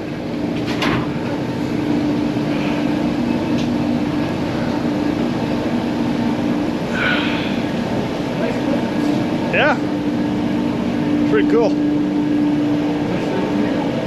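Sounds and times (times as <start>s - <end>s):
ship machinery drone: 0.0s - 14.0s.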